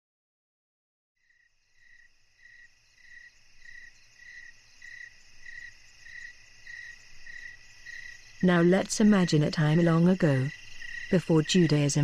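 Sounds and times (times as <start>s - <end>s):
crickets chirping: 1.2s - 12.0s.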